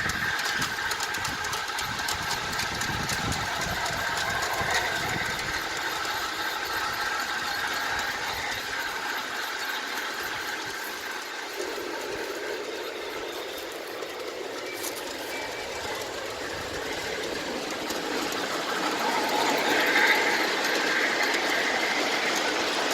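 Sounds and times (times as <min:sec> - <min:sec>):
model train steam sounds: 0:00.0 - 0:22.9
wheels rattling on track: 0:00.0 - 0:22.9.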